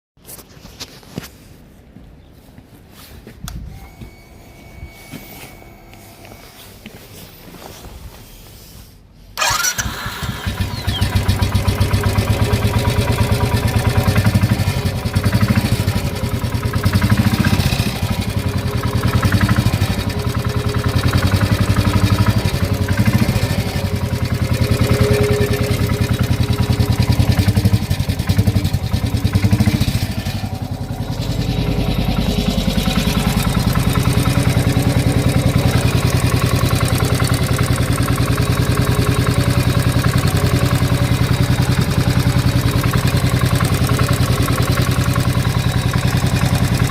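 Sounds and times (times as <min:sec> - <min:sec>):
motorcycle engine revving: 0:09.4 - 0:46.9.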